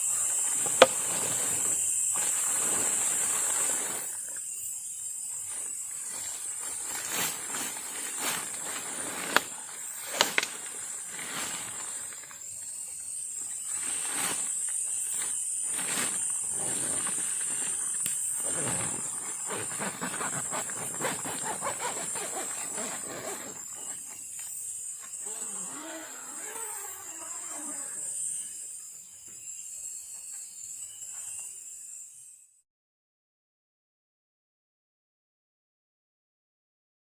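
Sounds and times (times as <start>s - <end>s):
night insects droning: 0.0s - 32.6s.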